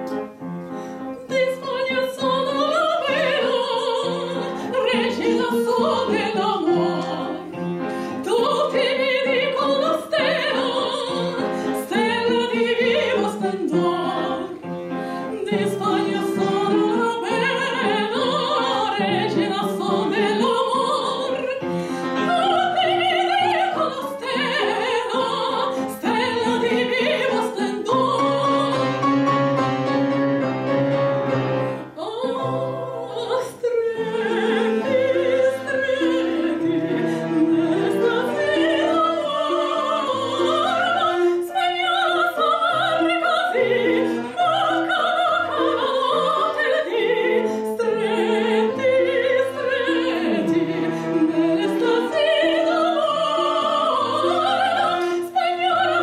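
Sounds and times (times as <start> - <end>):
cello: 0.0 - 56.0
grand piano: 0.0 - 56.0
soprano singing operatic bolero: 1.2 - 56.0.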